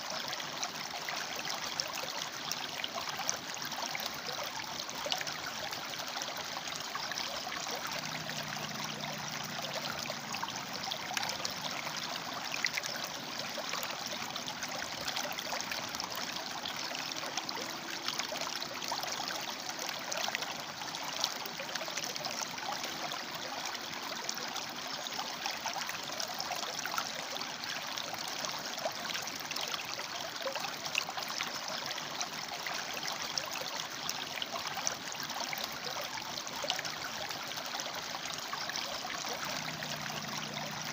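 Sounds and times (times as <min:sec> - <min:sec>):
river water splashing over rocks: 0:00.0 - 0:40.9.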